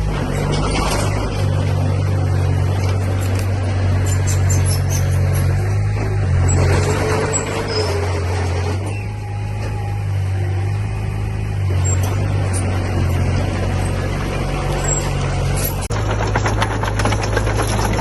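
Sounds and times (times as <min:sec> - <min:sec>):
diesel engine of heavy machinery: 0:00.0 - 0:18.0.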